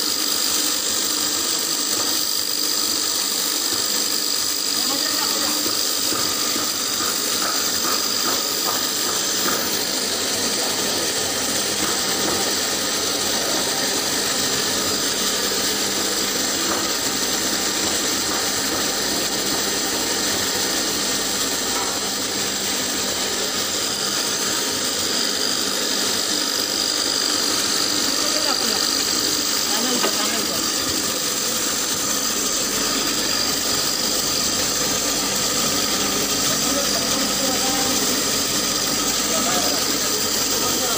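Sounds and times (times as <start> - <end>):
machine running with high whine: 0.0 - 40.9.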